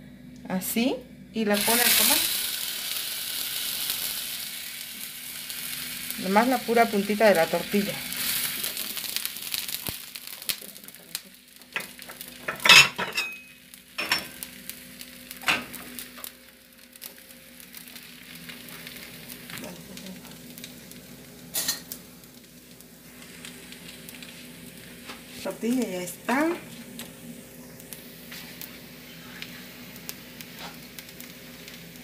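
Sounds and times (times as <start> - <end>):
tortillas sizzling on hot griddle: 1.6 - 32.0.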